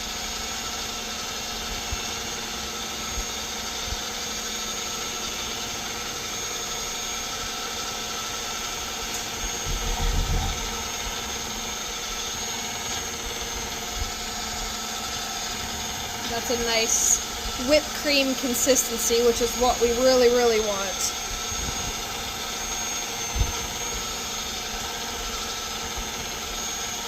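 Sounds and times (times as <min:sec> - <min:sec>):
electric mixer running: 0:00.0 - 0:27.0.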